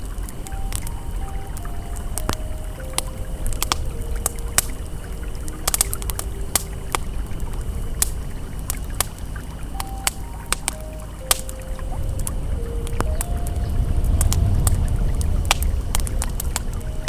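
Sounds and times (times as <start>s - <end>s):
campfire crackling: 0.0s - 17.0s
faint held ambient tones: 0.0s - 17.0s
flowing river rushing: 0.0s - 17.0s.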